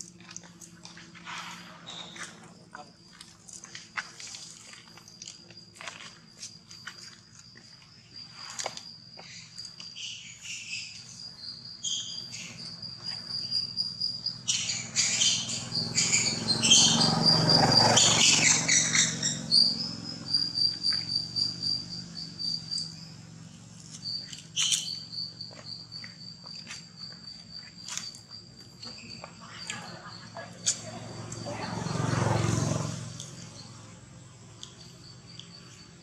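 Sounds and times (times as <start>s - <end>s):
insects chirping: 0.0s - 36.0s.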